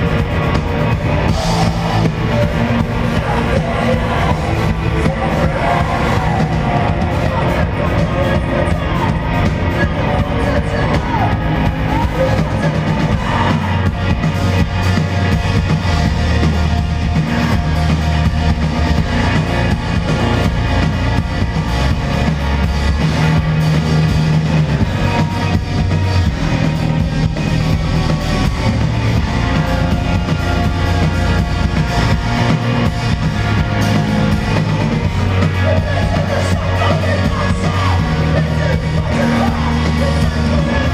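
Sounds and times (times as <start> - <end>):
bass guitar: 0.0 - 40.9
distorted electric guitars: 0.0 - 40.9
pounding drum kit: 0.0 - 40.9.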